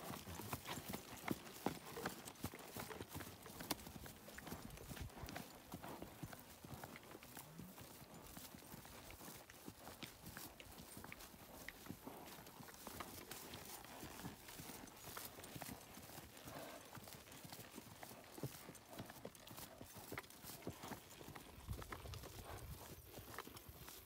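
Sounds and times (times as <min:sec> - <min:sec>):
horse hooves on dry grass: 0:00.0 - 0:24.0.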